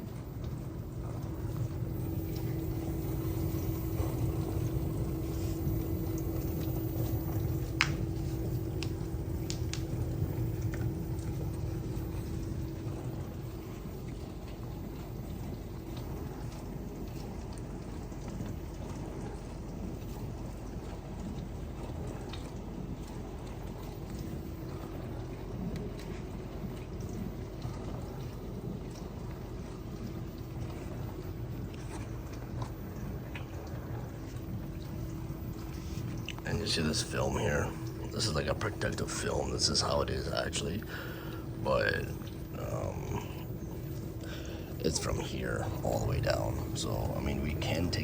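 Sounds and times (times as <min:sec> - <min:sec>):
dishwasher pump hum: 0:00.0 - 0:48.0
water sloshing and spraying: 0:00.0 - 0:48.0.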